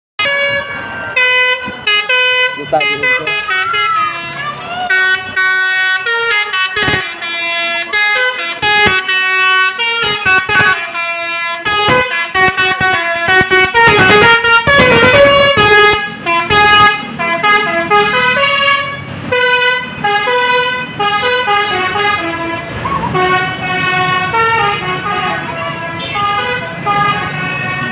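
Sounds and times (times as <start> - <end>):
multi-tone bus air horn melody: 0.2 - 27.9.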